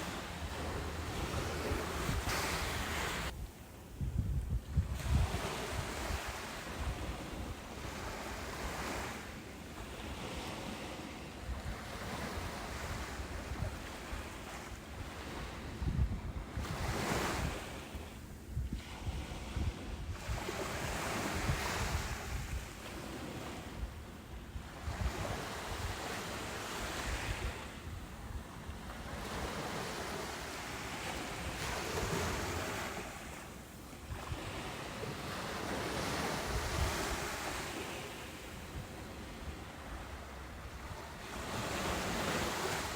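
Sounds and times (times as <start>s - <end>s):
waves breaking on a beach: 0.0s - 42.9s.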